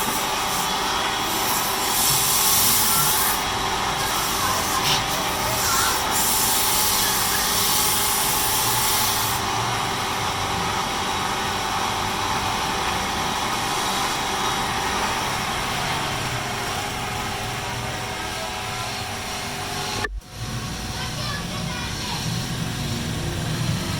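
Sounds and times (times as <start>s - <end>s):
wood lathe motor hum: 0.0s - 20.7s
tool hissing on spinning wood: 0.0s - 23.9s.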